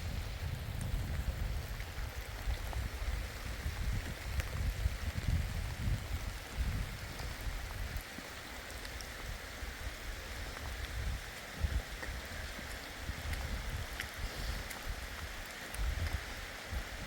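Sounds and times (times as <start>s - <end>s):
steady rain falling: 0.0s - 17.0s
wind gusting on microphone: 0.0s - 17.0s.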